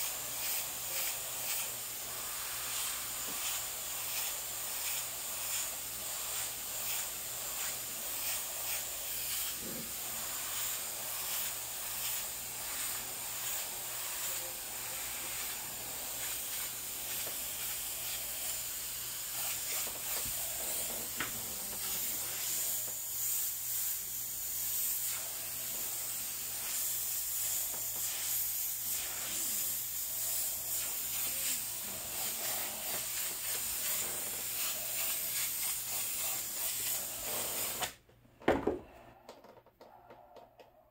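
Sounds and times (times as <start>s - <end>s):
airbrush spraying paint: 0.0s - 38.0s.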